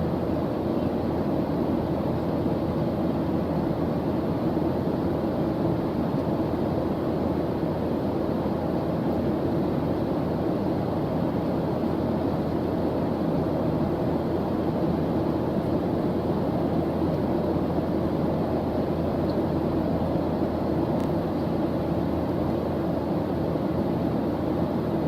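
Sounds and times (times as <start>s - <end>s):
deep white noise: 0.0s - 25.0s.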